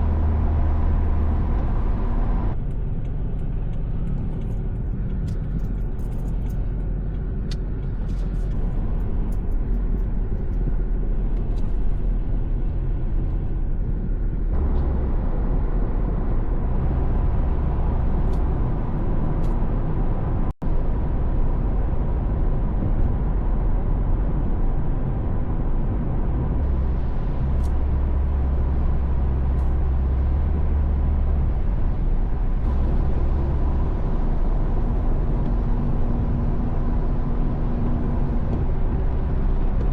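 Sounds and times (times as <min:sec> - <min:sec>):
car road noise: 0:00.0 - 0:39.9.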